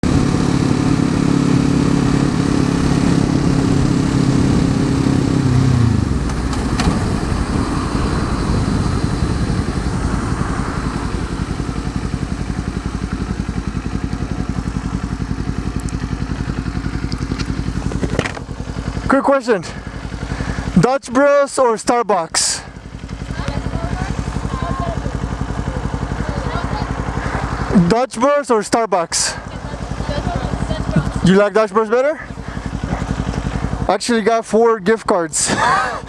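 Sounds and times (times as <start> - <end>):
motorcycle engine idling: 0.0 - 36.0.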